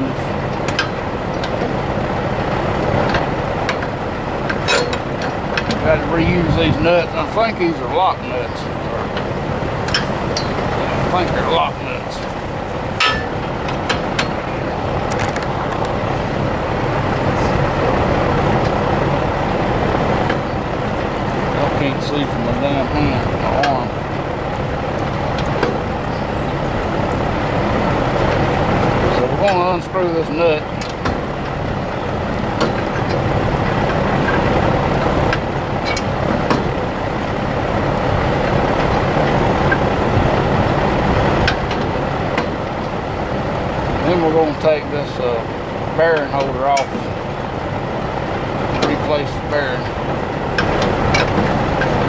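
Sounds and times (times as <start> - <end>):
rushing background noise: 0.0 - 52.0.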